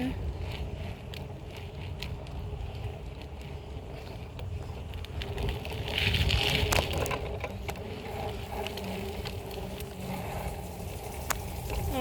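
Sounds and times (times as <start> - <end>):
bike tyres rumbling on pavement: 0.0 - 12.0.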